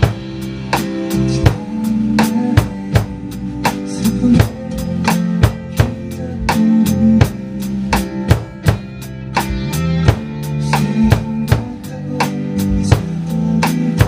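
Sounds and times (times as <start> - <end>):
drum kit groove: 0.0 - 14.0
worship song backing track: 0.0 - 14.0.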